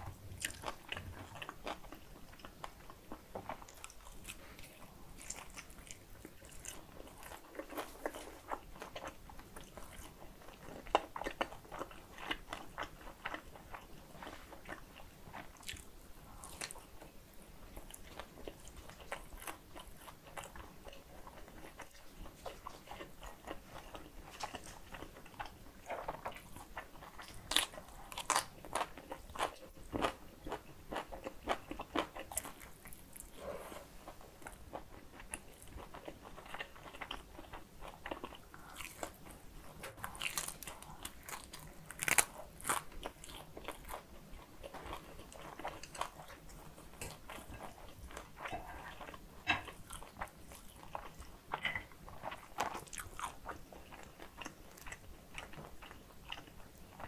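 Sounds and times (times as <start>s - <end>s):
biting and wet chewing: 0.0s - 57.0s.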